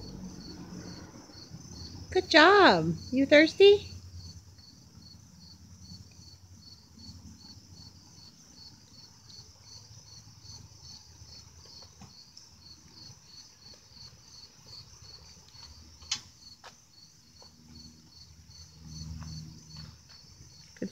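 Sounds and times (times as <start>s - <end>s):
high insect hum: 0.0s - 20.9s
insects chirping: 0.0s - 20.9s.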